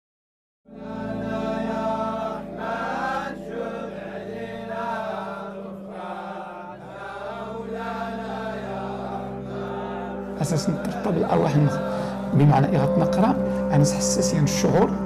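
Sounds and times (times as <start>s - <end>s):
low drone: 0.7s - 15.0s
men chanting together: 0.8s - 13.1s.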